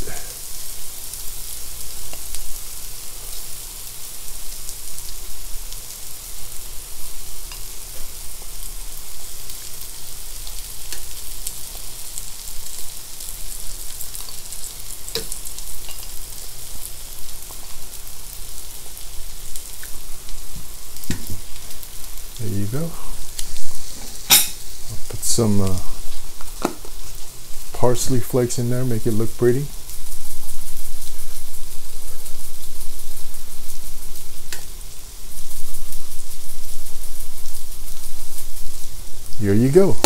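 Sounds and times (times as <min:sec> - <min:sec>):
meat and onions sizzling in pan: 0:00.0 - 0:40.0.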